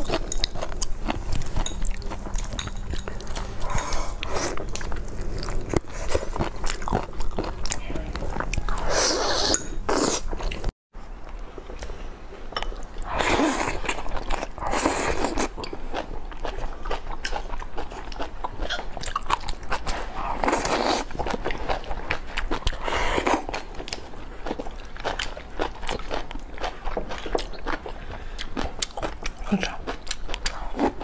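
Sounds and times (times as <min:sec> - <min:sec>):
chewing and crunching: 0:00.0 - 0:10.7, 0:12.6 - 0:31.0.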